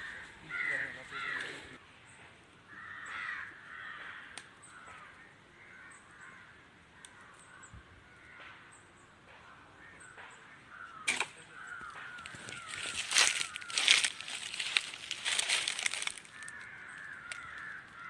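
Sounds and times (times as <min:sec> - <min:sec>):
crows cawing: 0:00.0 - 0:01.8, 0:02.6 - 0:08.7, 0:09.5 - 0:18.0.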